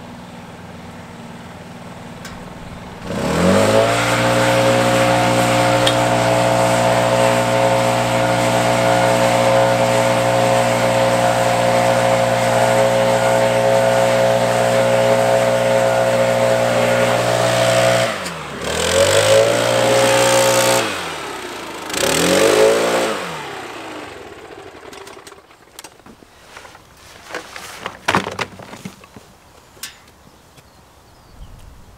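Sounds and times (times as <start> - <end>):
blower engine running: 0.0 - 27.9.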